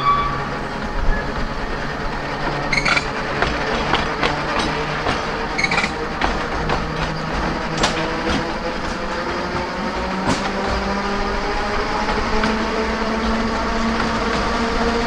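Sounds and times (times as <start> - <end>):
electric tram motor whine: 0.0 - 15.0
tram running rumble: 0.0 - 15.0
wheels clicking over rail joints: 0.6 - 15.0.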